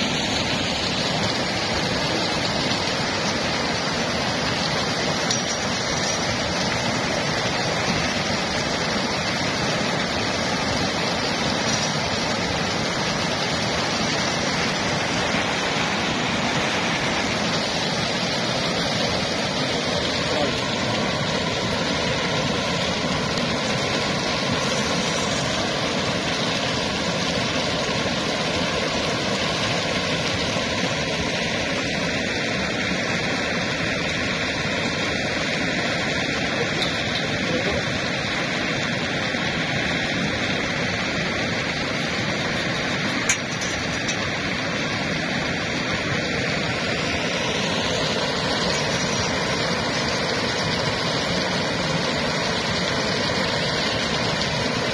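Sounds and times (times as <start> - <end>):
water rushing over a weir: 0.0 - 54.9.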